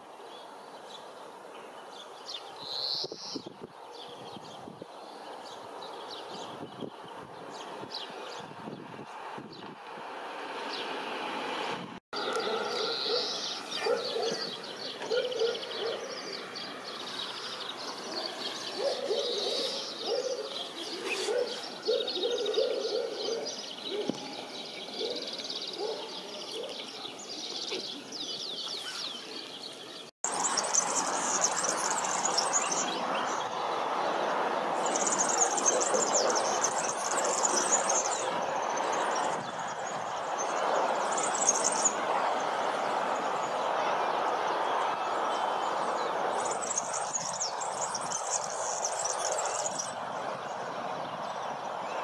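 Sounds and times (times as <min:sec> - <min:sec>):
songbirds singing: 0:00.0 - 0:52.0.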